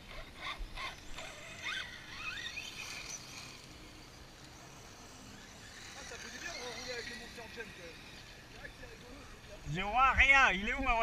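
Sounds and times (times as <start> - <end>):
electric toy car motors whining: 0.0 - 10.0.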